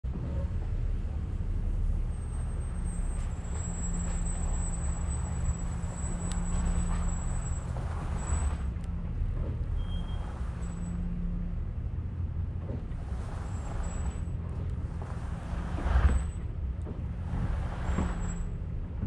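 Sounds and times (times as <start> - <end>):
car engine rumbling at low speed: 0.0 - 19.0
tyres rolling on snow and ice: 0.3 - 19.0.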